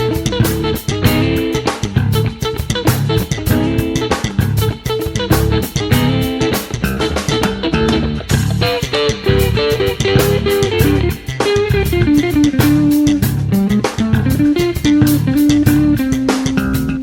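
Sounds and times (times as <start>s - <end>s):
bass guitar: 0.0s - 17.0s
guitar melody: 0.0s - 17.0s
steady drum beat: 0.0s - 17.0s.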